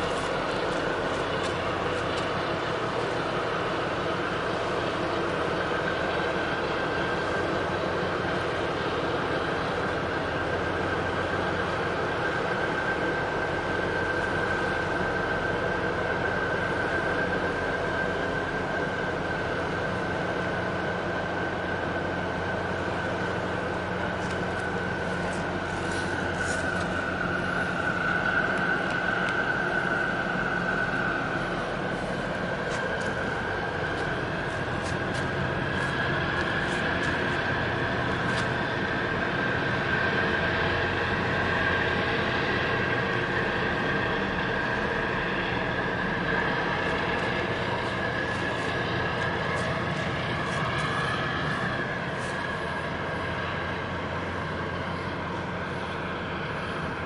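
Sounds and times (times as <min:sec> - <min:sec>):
high steady whine: 0:00.0 - 0:57.0
ship engine hum: 0:00.0 - 0:57.0.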